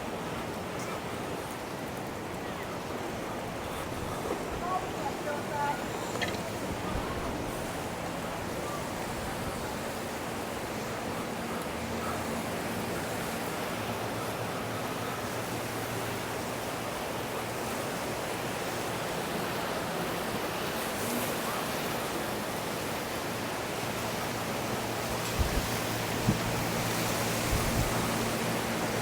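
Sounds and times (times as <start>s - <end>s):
ocean surf: 0.0s - 29.0s
wind: 0.0s - 29.0s.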